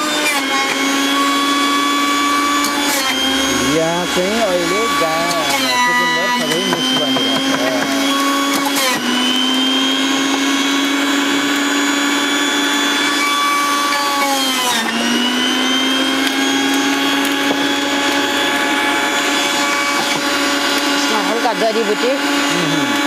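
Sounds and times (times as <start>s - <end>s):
juicer motor whining: 0.0s - 23.0s.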